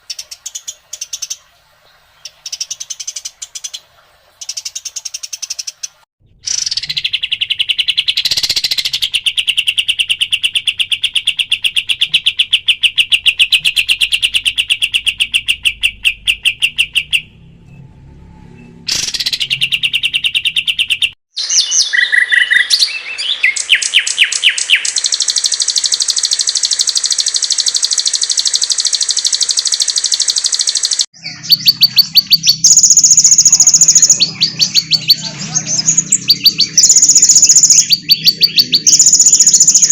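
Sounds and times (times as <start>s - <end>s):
songbird chattering trills: 4.4s - 17.3s, 18.9s - 39.9s.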